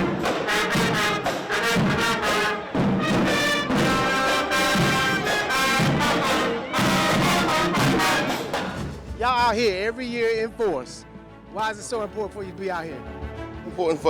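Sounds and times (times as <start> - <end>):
brass phrases: 0.0 - 13.9
marching band playing: 0.0 - 13.9.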